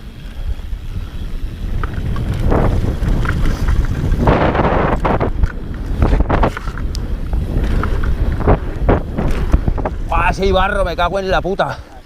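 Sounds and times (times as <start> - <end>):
motorcycle engine rumble: 0.0 - 10.7
wind buffeting microphone: 0.0 - 12.0.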